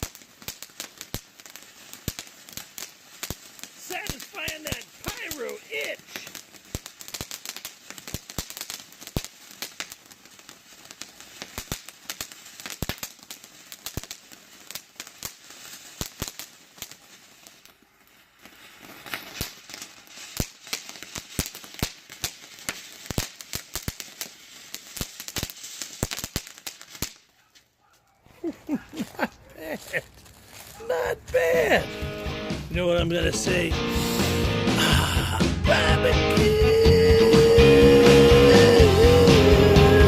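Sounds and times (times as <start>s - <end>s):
fountain firework hissing and crackling: 0.0s - 27.3s, 28.4s - 40.0s.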